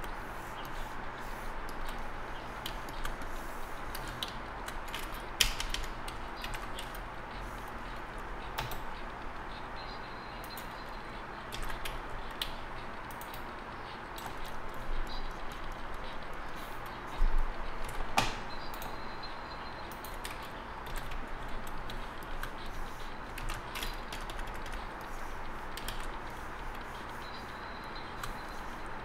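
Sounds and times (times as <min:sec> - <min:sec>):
computer mouse and keyboard clicks: 0:00.0 - 0:09.4, 0:10.4 - 0:19.0, 0:19.8 - 0:28.9.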